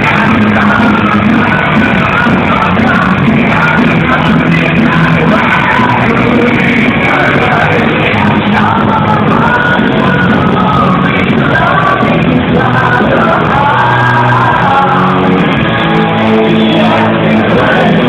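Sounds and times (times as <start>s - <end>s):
live heavy metal band: 0.0s - 18.0s
person singing: 0.0s - 18.0s.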